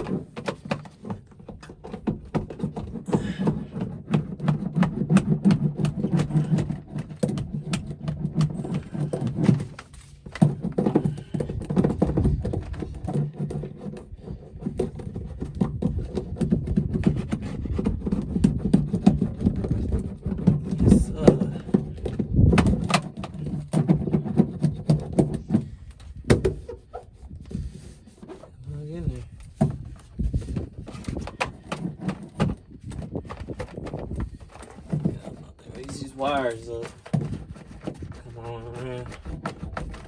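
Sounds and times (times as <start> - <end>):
hand roller clattering on metal floor: 0.0 - 28.6, 29.2 - 40.0.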